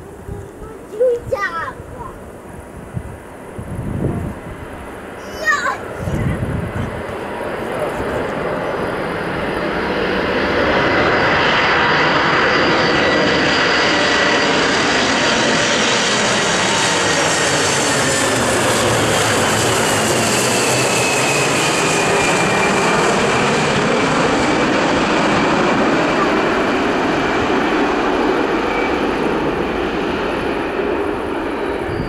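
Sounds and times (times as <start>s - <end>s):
jet aircraft passing overhead: 0.0s - 32.0s
jet engine whine: 0.0s - 32.0s.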